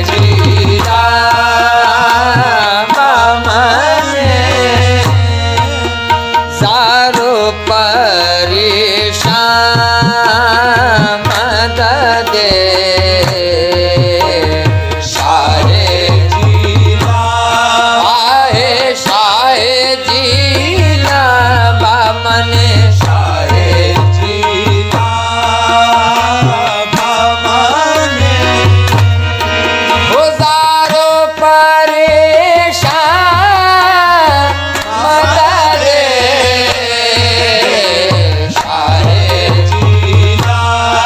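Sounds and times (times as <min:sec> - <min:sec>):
devotional singing: 0:00.0 - 0:41.0
tabla: 0:00.0 - 0:41.0.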